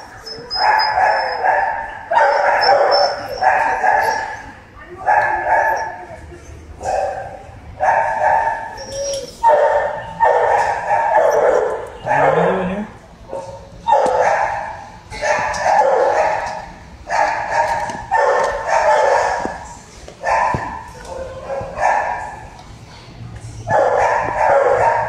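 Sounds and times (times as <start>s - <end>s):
dogs barking: 0.0s - 22.6s, 23.6s - 25.0s.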